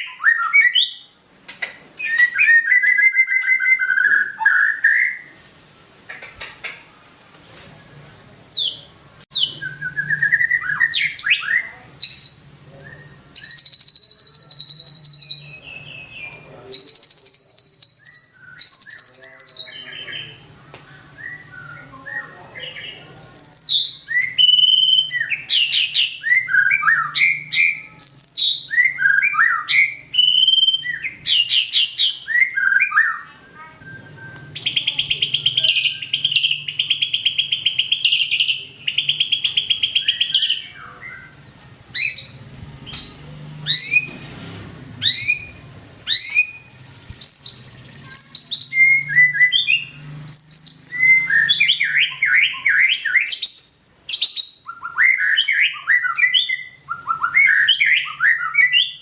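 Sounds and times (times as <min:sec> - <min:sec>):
bird singing: 0:00.0 - 0:59.0
faint low hum: 0:00.9 - 0:52.7.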